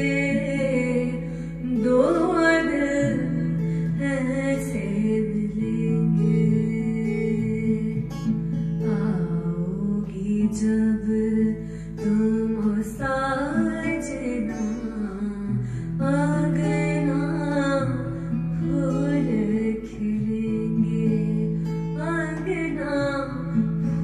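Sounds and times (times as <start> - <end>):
plucked acoustic guitar: 0.0 - 24.0
woman singing: 0.0 - 24.0.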